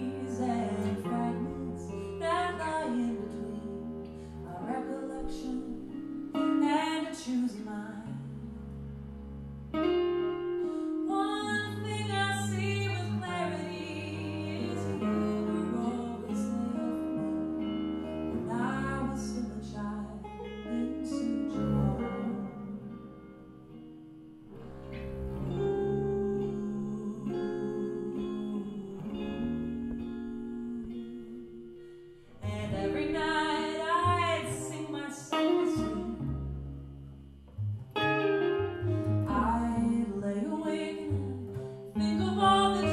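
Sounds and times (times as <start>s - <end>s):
woman singing: 0.0s - 8.6s, 10.9s - 23.3s, 25.5s - 36.6s, 39.0s - 42.9s
electric guitar: 0.0s - 42.9s
upright double bass: 0.0s - 42.9s.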